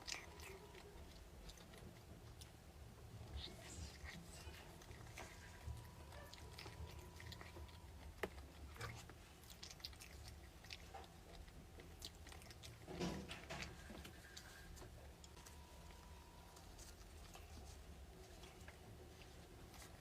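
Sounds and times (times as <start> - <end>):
close-up chewing: 0.0 - 20.0.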